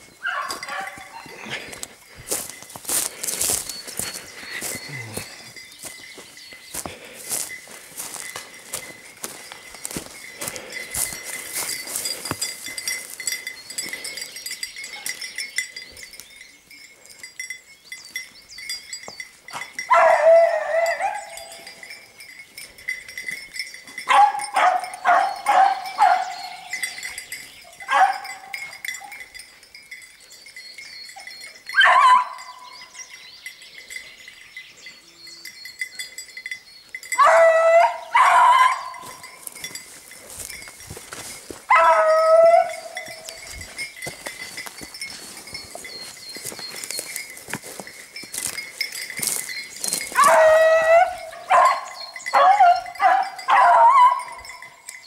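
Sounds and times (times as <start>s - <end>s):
beagles baying and yelping: 0.0s - 17.3s, 18.0s - 34.3s, 35.0s - 55.0s.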